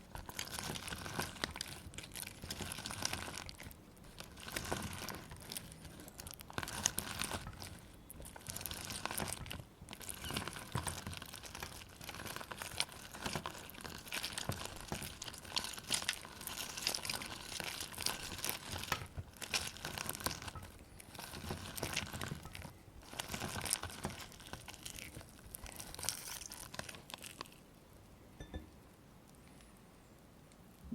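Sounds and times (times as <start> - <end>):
lemon squishing and crackling: 0.0 - 27.9.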